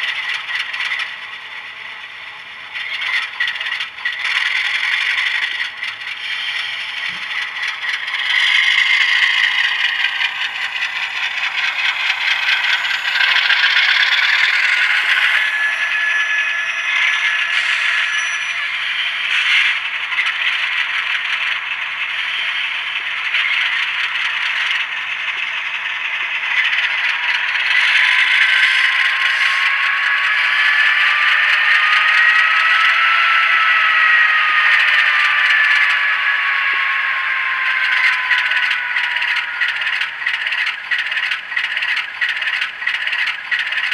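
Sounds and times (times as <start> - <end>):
model train diesel engine sound: 0.0 - 43.9
whining tone: 0.0 - 43.9.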